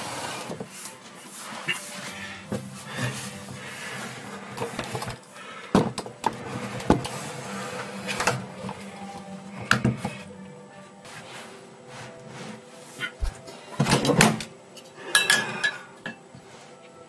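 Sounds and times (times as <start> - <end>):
steady low hum: 1.5 - 15.4.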